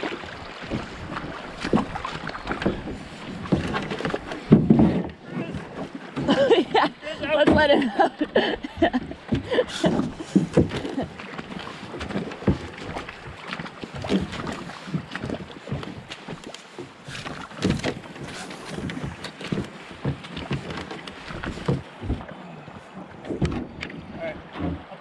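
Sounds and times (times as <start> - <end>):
paddle and hull knocking on rocks: 0.0 - 25.0
water rushing through shallows: 0.0 - 25.0.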